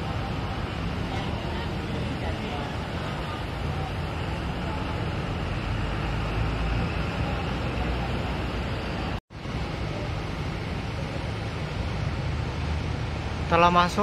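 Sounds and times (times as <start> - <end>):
bus engine rumbling: 0.0 - 14.0
traffic noise: 0.0 - 14.0.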